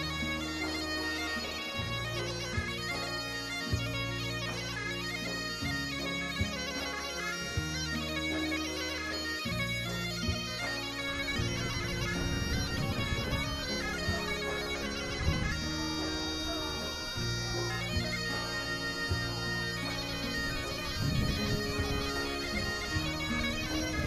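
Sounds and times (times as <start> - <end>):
bagpipe melody over drone: 0.0 - 24.0.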